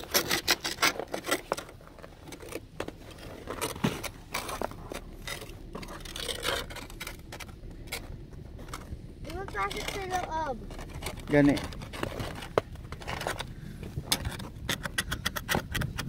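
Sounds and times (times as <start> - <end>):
ice scraper scraping ice: 0.0 - 8.0, 8.6 - 13.5.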